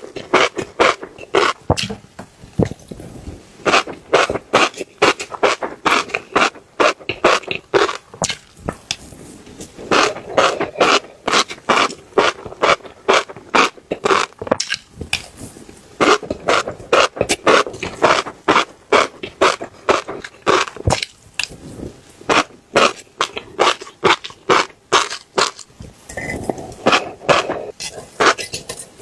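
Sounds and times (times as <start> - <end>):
wet chewing and mouth sounds: 0.0 - 29.0.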